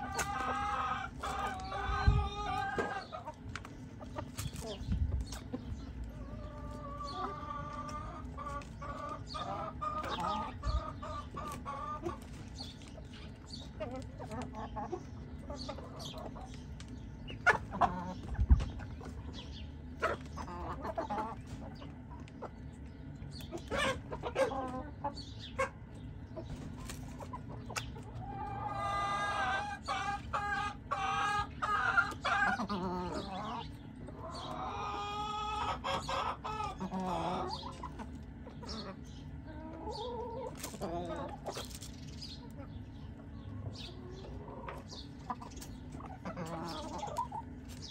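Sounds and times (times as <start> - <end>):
chickens clucking: 0.0 - 47.9
drawn-out chicken calls: 0.0 - 47.9.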